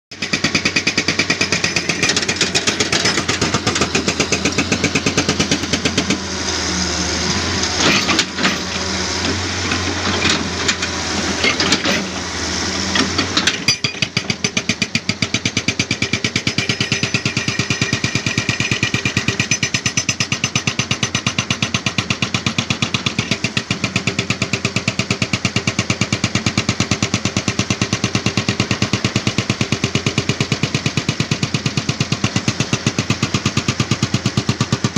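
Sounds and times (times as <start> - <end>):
jackhammer pounding rock: 0.1 - 12.2, 12.8 - 34.9.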